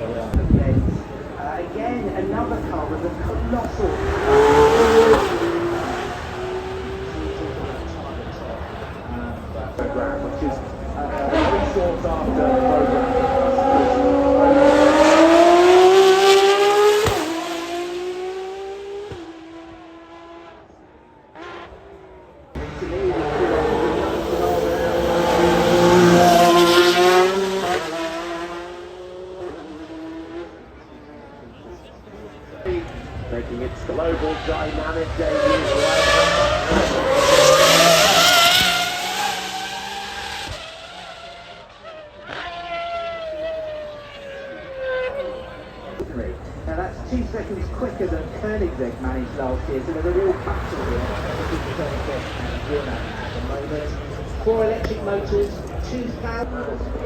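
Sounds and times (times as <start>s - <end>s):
car engine accelerating hard: 2.0s - 31.4s, 32.2s - 57.0s.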